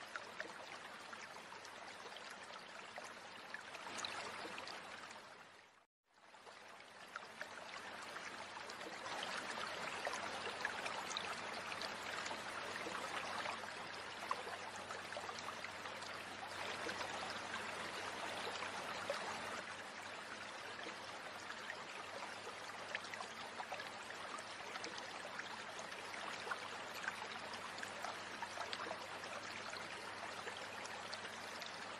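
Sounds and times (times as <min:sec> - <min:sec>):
stream water running: 0:00.0 - 0:31.9.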